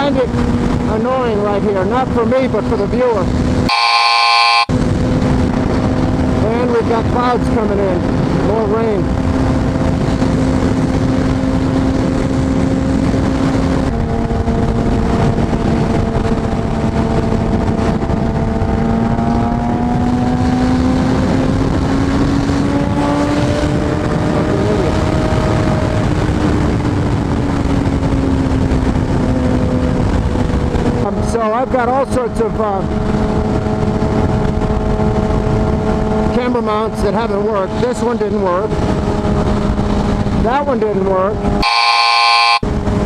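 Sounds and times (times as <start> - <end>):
wind rush: 0.0 - 3.7, 4.7 - 41.6.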